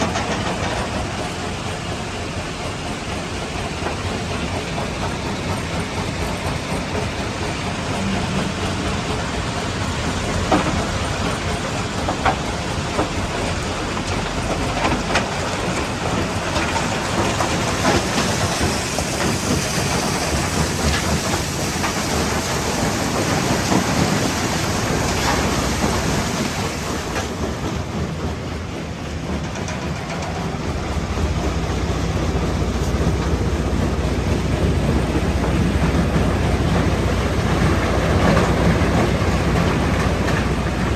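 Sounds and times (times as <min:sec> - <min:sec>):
crusher heavy rumble: 0:00.0 - 0:40.9.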